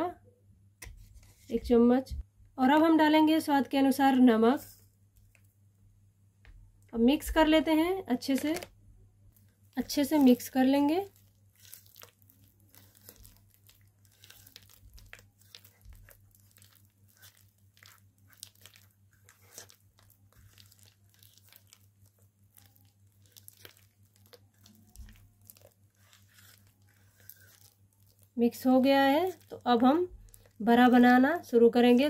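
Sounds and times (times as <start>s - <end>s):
hand mixing thick batter: 2.6s - 32.0s.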